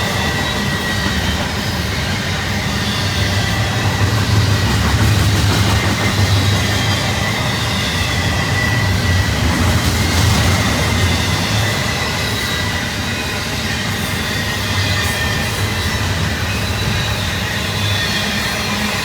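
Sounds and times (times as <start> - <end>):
high wheel squeal: 0.0 - 19.0
train wheels rumbling on rail: 0.0 - 19.0.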